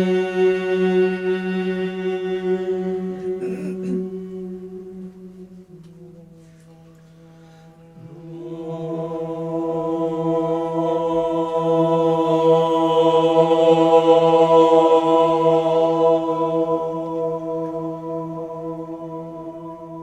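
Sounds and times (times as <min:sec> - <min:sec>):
choir singing a held chord: 0:00.0 - 0:20.0.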